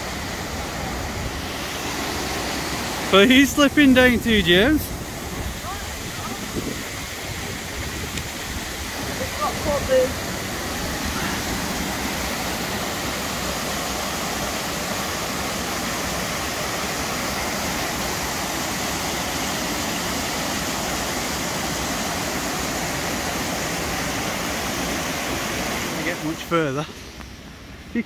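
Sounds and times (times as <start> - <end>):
water rushing over rocks: 0.0 - 27.2.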